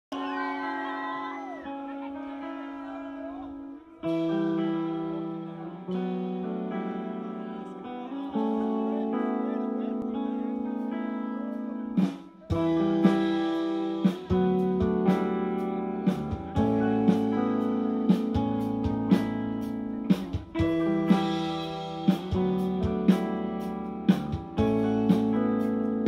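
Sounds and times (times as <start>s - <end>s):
rock band playing: 0.1s - 26.0s.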